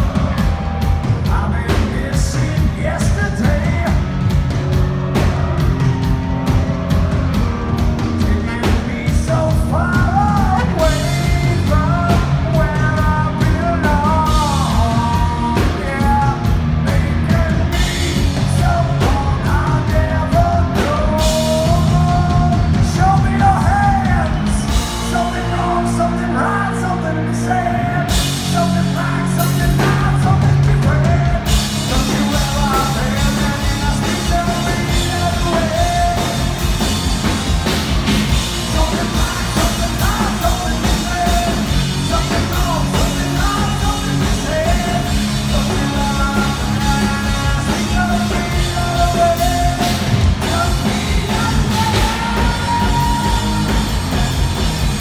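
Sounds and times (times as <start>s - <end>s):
hard rock band playing: 0.0s - 55.0s
man singing: 1.1s - 4.3s, 8.0s - 37.2s, 38.3s - 55.0s.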